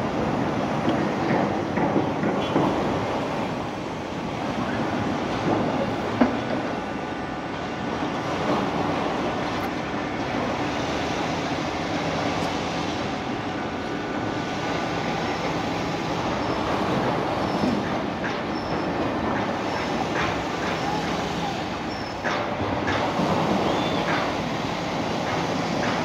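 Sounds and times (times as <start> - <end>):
mechanical rumble of city street: 0.0 - 26.0.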